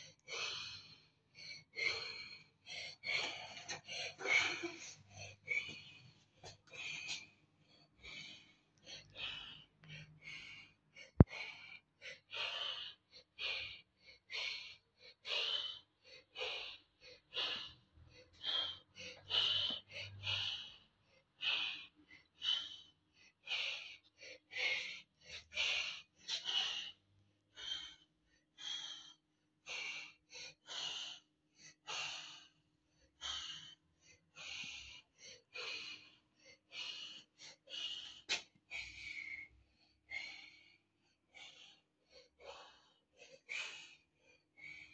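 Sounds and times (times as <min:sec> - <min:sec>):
heavy breathing: 0:00.0 - 0:44.9.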